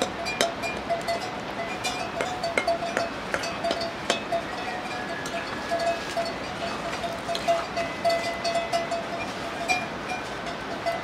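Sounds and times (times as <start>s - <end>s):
light metallic tinkling: 0.0s - 11.0s.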